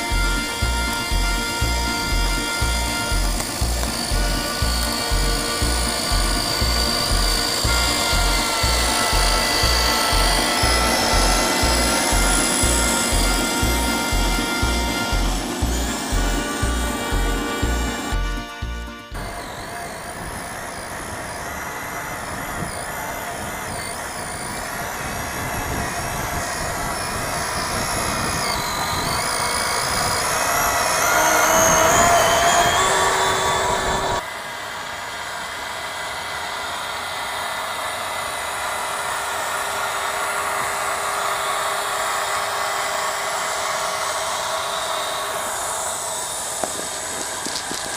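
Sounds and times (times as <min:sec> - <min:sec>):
toy truck motor and gears whining: 0:00.0 - 0:47.9.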